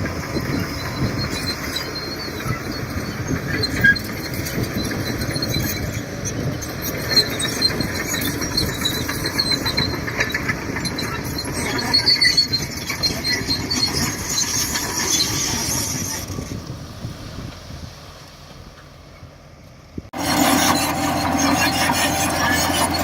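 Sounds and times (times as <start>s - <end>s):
steel tracks squealing and clanking: 0.0s - 16.6s, 20.2s - 23.0s
bulldozer engine running: 0.0s - 17.7s, 18.4s - 23.0s.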